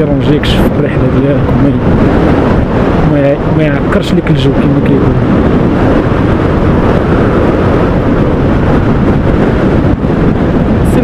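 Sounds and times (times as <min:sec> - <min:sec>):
road noise: 0:00.0 - 0:11.0
wind buffeting microphone: 0:00.0 - 0:11.0
motorcycle engine: 0:01.4 - 0:11.0.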